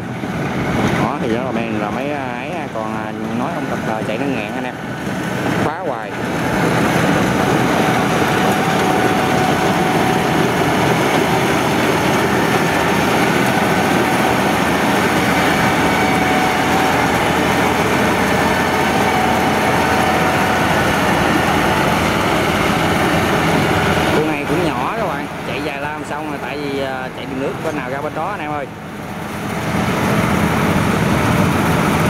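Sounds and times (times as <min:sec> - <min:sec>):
combine harvester running: 0:00.0 - 0:32.0
thin steady whine: 0:00.0 - 0:32.0.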